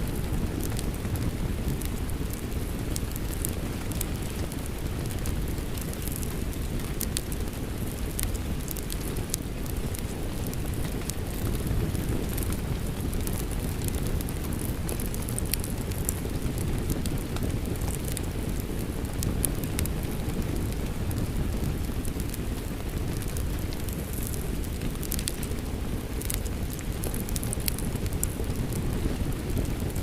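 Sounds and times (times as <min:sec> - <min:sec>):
steady rain: 0:00.0 - 0:30.0
wood fire crackling and popping: 0:00.0 - 0:30.0.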